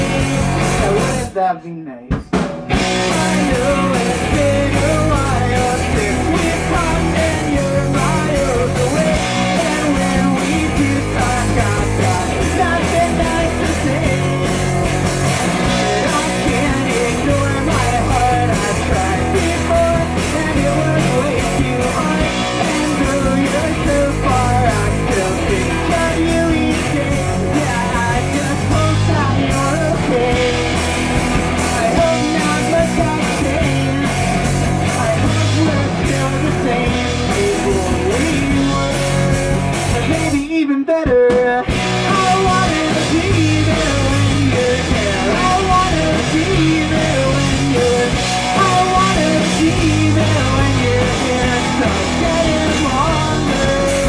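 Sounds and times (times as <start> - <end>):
drum kit: 0.0 - 1.4, 2.0 - 54.0
bass guitar: 0.0 - 1.5, 2.1 - 54.0
electric guitar: 0.0 - 54.0
person singing: 0.0 - 54.0.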